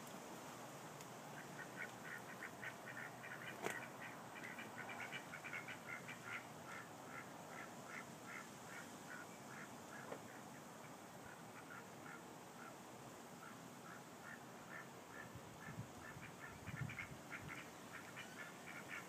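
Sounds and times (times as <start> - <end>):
ducks quacking: 1.4 - 10.6, 11.2 - 12.7, 13.4 - 19.0.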